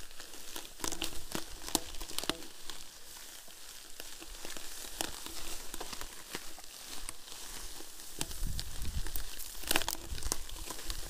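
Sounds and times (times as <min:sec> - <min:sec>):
bike tyres crackling through grass: 0:00.0 - 0:11.0.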